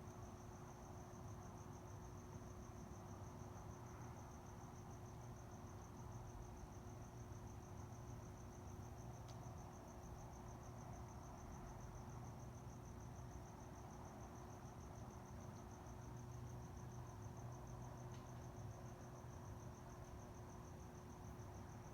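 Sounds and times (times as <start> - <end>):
cricket chirping: 0.1 - 21.9.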